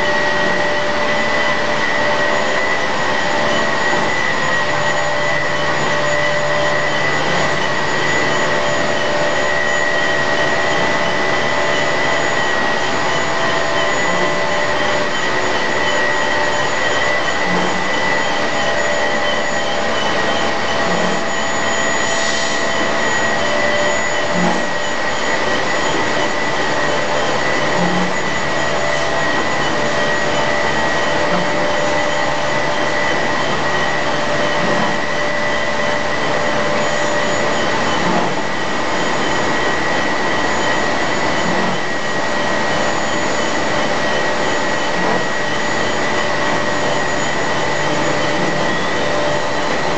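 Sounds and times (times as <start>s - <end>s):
high whine: 0.0s - 49.9s
motors and pumps running: 0.0s - 49.9s.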